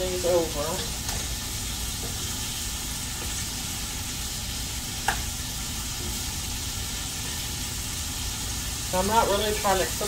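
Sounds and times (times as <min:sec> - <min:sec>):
patties sizzling in skillet: 0:00.0 - 0:10.0.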